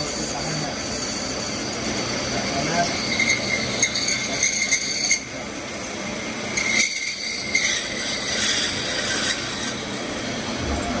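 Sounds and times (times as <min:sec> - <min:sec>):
milling machine cutting metal: 0:00.0 - 0:11.0.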